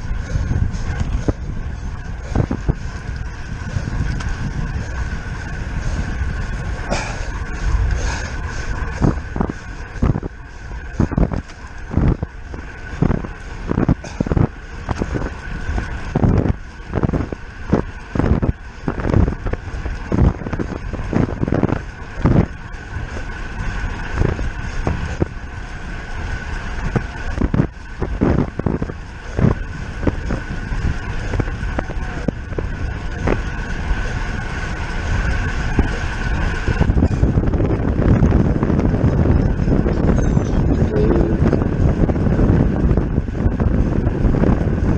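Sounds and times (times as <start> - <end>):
bicycle high whine: 0.0 - 44.9
wind on microphone: 0.0 - 44.9.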